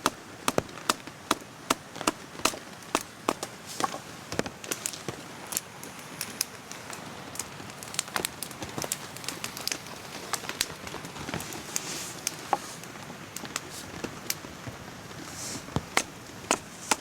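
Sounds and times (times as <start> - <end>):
campfire crackling: 0.0 - 17.0
rain hiss: 0.0 - 17.0.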